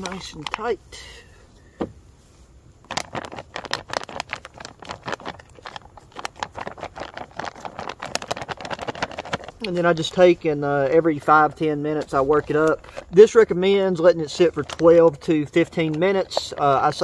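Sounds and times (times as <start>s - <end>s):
food pouch crinkling: 0.0s - 0.7s, 2.8s - 17.0s.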